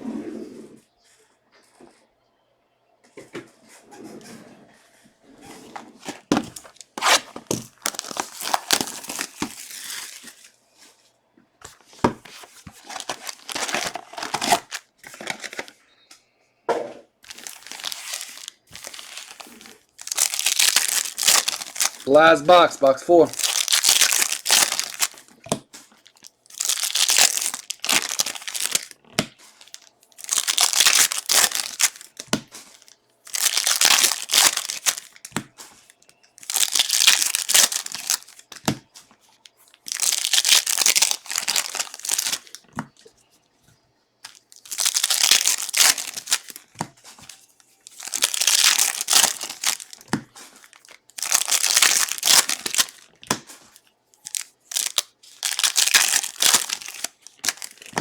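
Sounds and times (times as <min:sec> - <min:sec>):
plastic wrappers crinkling and tearing: 0:06.0 - 0:10.6, 0:11.7 - 0:15.8, 0:17.2 - 0:43.1, 0:44.2 - 0:58.0.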